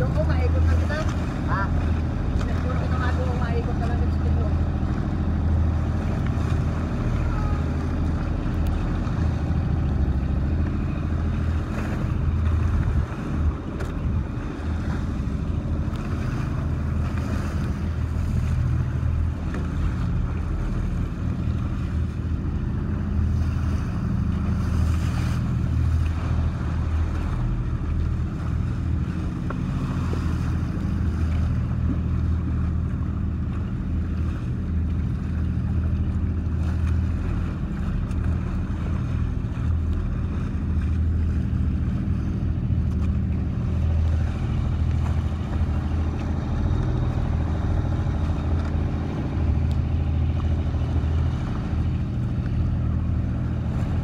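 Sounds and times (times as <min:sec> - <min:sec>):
boat engine running: 0:00.0 - 0:54.0
water rushing past hull: 0:00.0 - 0:54.0
wind buffeting microphone: 0:00.0 - 0:54.0.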